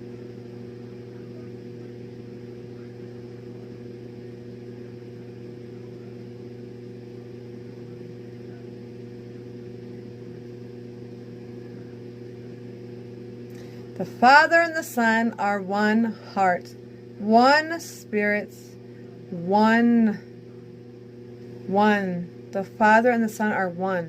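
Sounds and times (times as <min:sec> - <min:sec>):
steady low electrical hum: 0:00.0 - 0:24.0.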